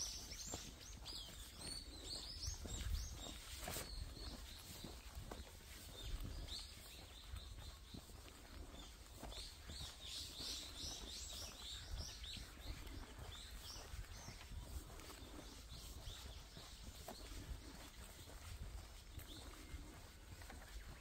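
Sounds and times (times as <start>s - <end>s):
wild birds chirping: 0.0s - 21.0s.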